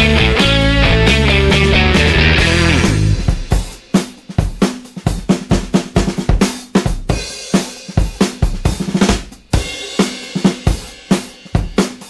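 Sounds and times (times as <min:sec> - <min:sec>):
music with drum-kit beat: 0:00.0 - 0:12.0.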